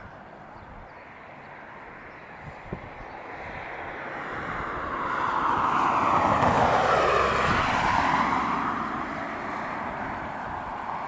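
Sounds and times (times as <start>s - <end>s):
turboprop airliner flying past: 1.0s - 11.0s.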